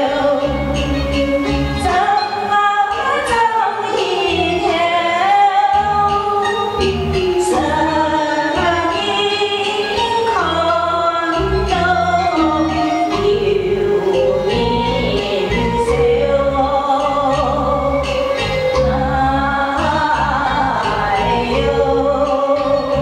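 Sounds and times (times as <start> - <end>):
karaoke backing track with bass: 0.0 - 23.0
woman singing into a microphone: 0.0 - 23.0.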